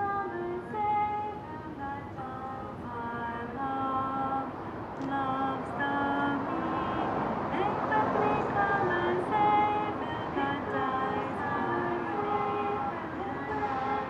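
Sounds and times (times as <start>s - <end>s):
traffic hum: 0.0s - 14.0s
woman singing unaccompanied: 0.0s - 14.0s.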